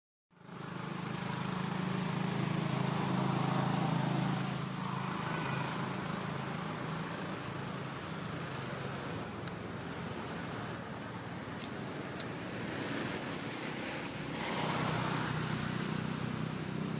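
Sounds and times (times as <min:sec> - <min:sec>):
traffic noise: 0:00.3 - 0:16.9.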